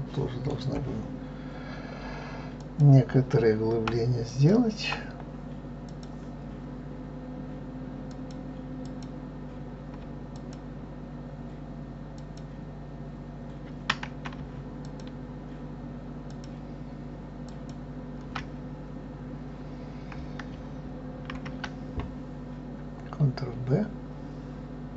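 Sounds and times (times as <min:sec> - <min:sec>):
low hum: 0:00.0 - 0:24.9.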